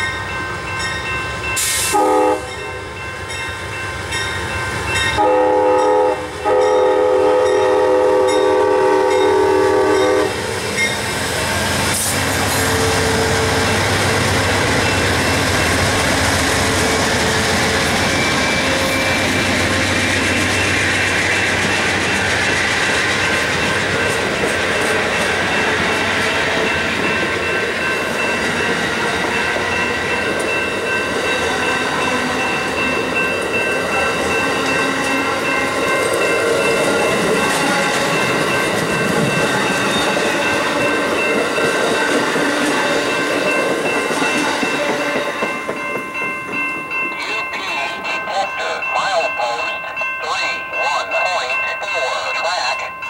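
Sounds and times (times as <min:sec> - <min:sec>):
level-crossing warning bell: 0:00.0 - 0:53.0.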